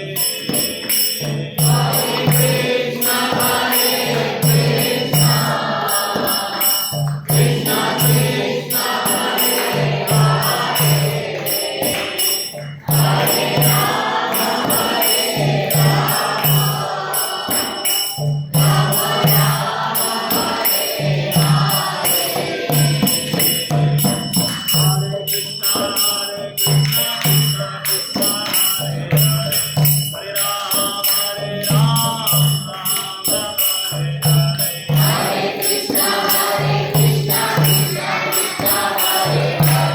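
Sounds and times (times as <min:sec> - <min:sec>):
group chanting: 0:00.0 - 0:39.9
hand cymbals jingling: 0:00.0 - 0:39.9.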